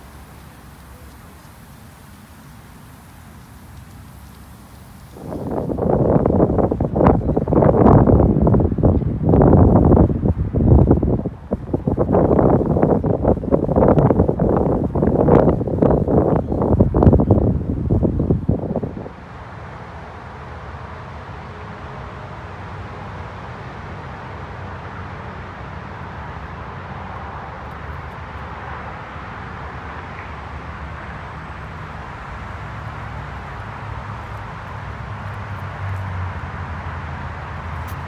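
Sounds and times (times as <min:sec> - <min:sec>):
distant road traffic rumble: 0:00.0 - 0:38.0.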